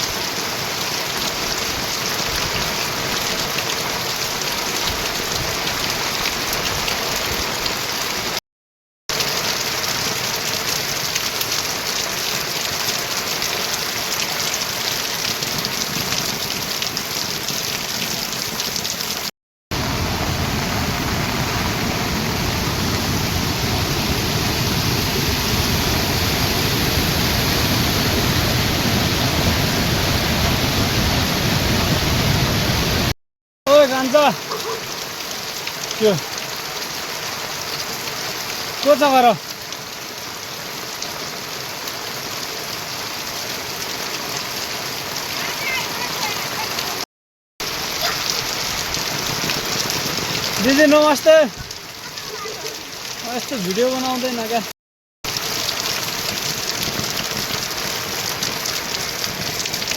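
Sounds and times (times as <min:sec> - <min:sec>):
heavy rain falling: 0:00.0 - 0:08.4, 0:09.1 - 0:47.0, 0:47.6 - 0:54.7, 0:55.3 - 0:59.9.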